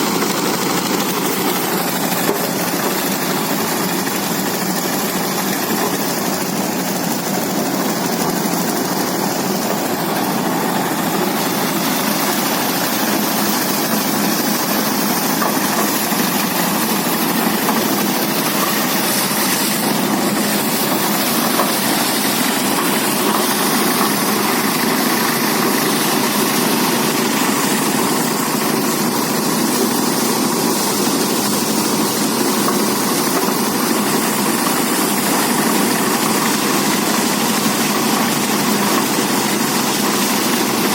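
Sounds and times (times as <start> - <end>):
threshing machine running: 0.0 - 40.9.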